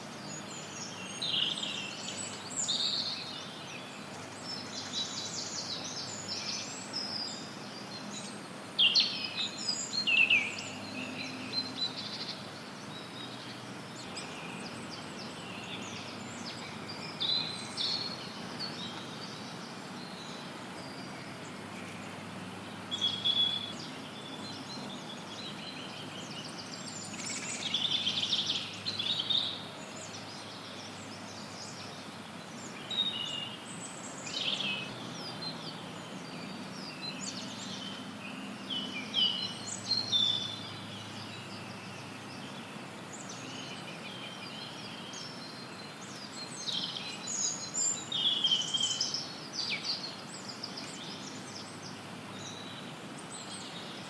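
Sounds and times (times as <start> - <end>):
white noise hiss: 0.0 - 54.0
birds singing and chirping: 0.1 - 54.0.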